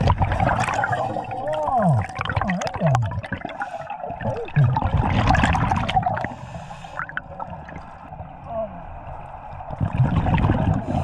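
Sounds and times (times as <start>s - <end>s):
underwater bubbles gurgling: 0.0s - 11.0s.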